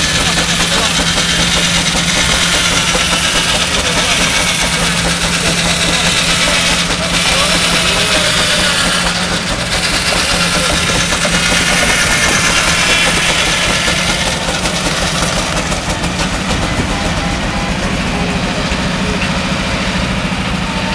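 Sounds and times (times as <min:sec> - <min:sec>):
circular saw cutting log: 0:00.0 - 0:20.9
steam engine working hard: 0:00.0 - 0:20.9.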